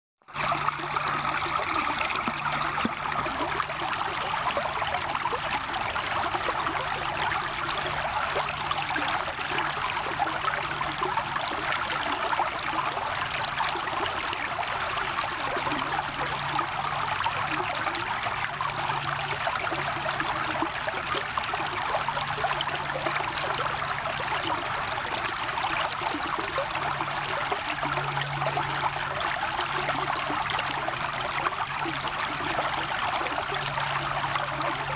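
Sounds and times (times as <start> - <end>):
stream splashing over rocks: 0.3 - 34.9.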